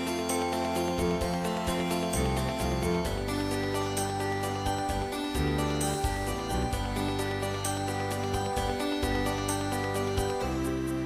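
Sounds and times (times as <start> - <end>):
instrumental background music: 0.0 - 11.0
tinkling percussion: 0.0 - 11.0.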